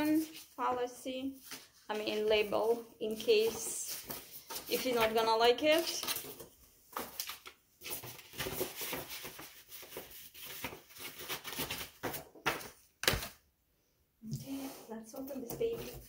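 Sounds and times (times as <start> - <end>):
paper and packaging rustling: 0.0 - 13.4.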